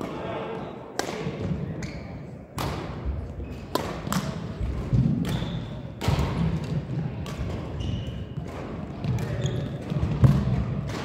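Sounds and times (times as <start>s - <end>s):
rackets hitting shuttlecock: 1.0s - 11.0s.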